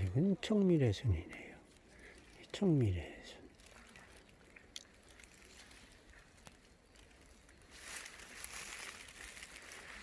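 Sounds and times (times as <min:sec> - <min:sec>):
soft rustling hiss: 0:00.0 - 0:10.0.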